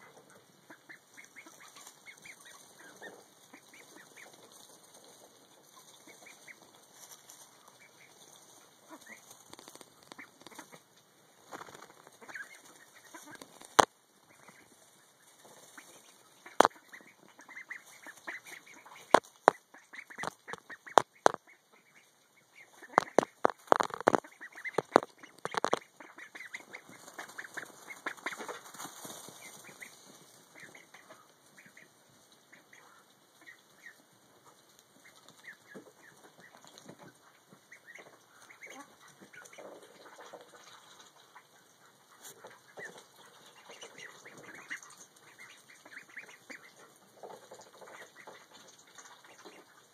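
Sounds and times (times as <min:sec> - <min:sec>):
ducklings chirping: 0:00.0 - 0:10.9, 0:11.6 - 0:49.9.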